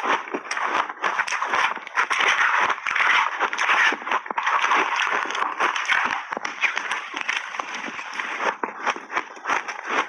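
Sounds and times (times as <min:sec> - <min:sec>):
ice crunching in bites: 0:00.0 - 0:10.0.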